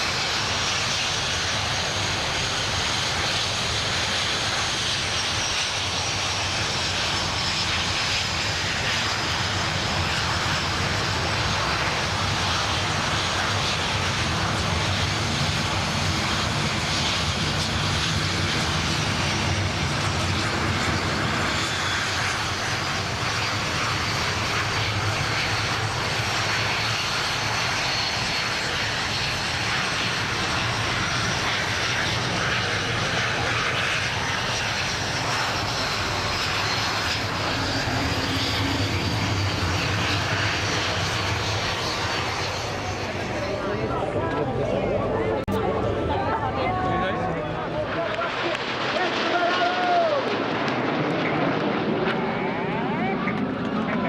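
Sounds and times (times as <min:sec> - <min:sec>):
jet aircraft flying past: 0:00.0 - 0:54.0.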